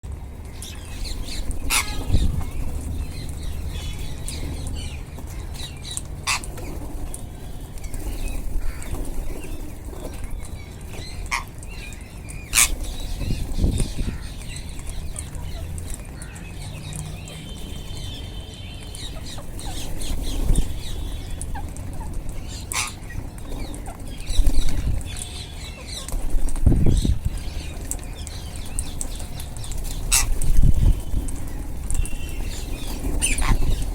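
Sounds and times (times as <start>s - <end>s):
parakeets chirping softly: 0.3s - 33.9s.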